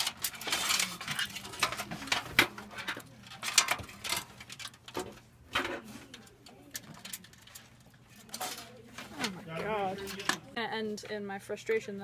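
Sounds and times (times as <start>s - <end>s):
computer parts clicking and scraping: 0.0s - 10.4s.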